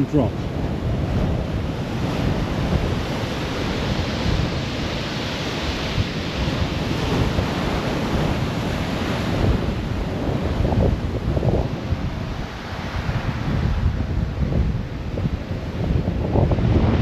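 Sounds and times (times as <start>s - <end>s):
waves breaking on shingle beach: 0.0s - 17.0s
wind buffeting microphone: 0.0s - 17.0s.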